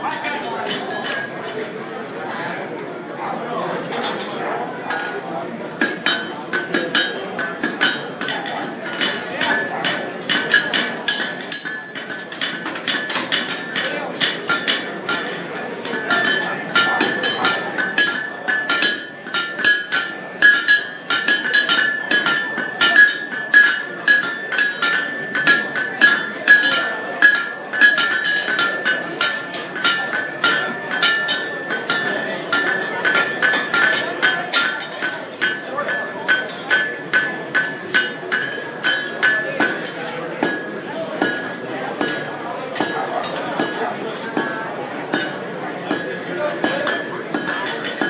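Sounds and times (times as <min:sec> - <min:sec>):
hammer striking anvil: 0:00.2 - 0:01.3, 0:05.8 - 0:48.0.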